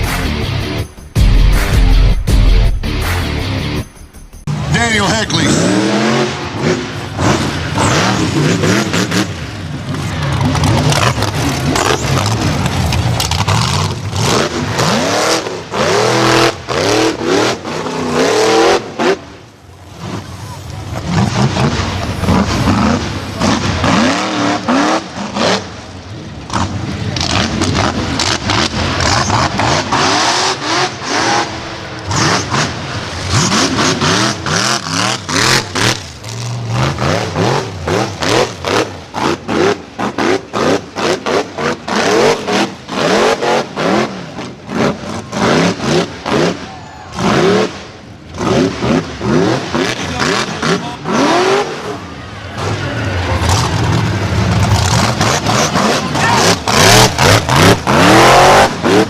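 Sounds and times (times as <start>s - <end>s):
off-road vehicle engine revving: 0.0s - 3.9s, 4.5s - 59.0s.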